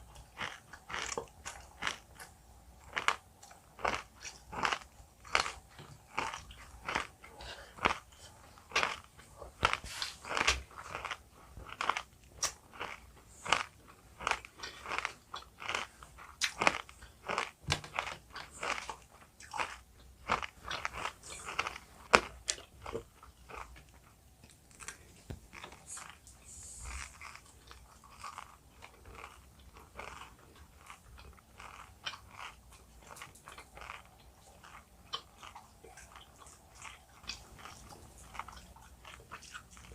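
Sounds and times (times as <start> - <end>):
chewing jelly candy: 0.0 - 39.9.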